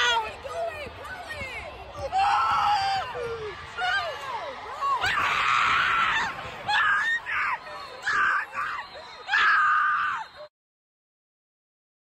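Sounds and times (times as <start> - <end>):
spectators screaming and yelling: 0.0 - 10.5.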